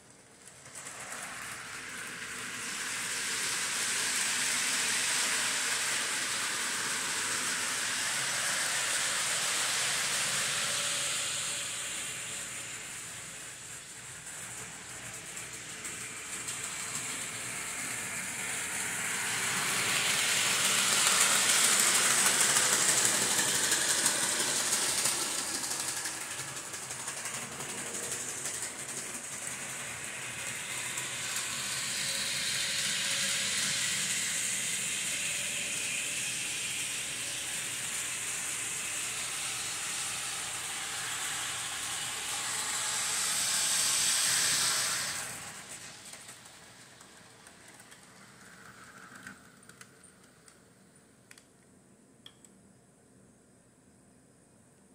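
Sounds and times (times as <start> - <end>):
model trains rushing on track: 0.0 - 51.5.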